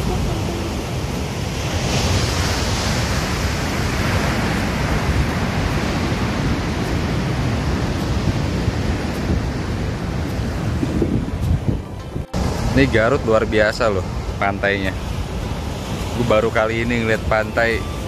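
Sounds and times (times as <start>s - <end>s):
sea surf breaking: 0.0s - 18.0s
wind buffeting microphone: 0.0s - 18.0s.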